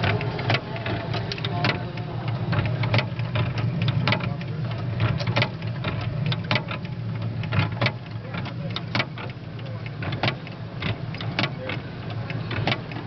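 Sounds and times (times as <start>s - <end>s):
low motor hum: 0.0s - 13.0s
mechanism clicks and taps: 0.0s - 13.0s.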